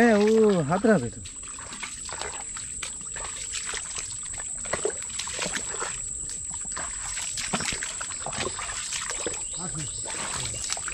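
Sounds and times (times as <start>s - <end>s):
feet wading through water and mud: 0.0s - 10.9s
steady high-pitched whine: 0.0s - 10.9s.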